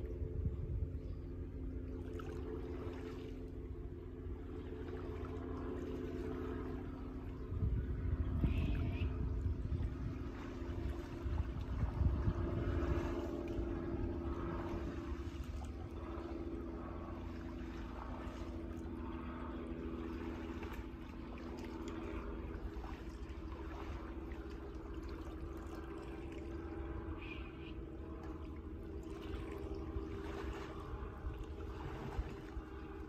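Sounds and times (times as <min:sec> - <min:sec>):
low hum and rumble: 0:00.0 - 0:33.0
water sloshing from wading: 0:01.2 - 0:33.0.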